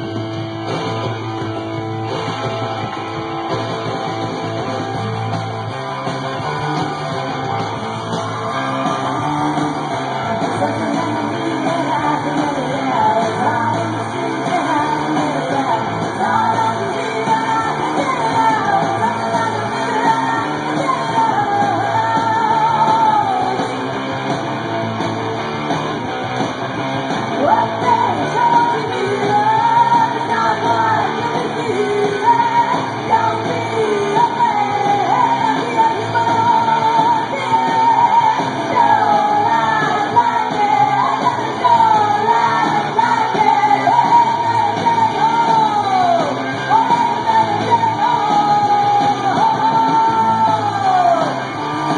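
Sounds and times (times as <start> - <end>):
punk rock song: 0.0 - 51.9.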